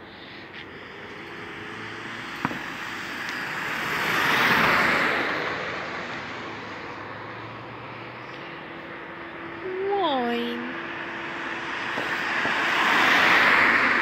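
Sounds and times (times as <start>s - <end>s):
vehicle passing by: 0.2s - 14.0s.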